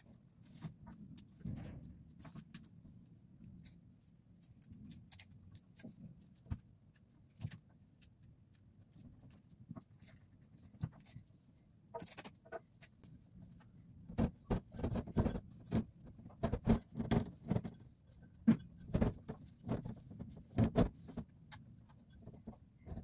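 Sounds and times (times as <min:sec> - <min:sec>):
flower stems rustling and clicking: 0:00.1 - 0:23.0.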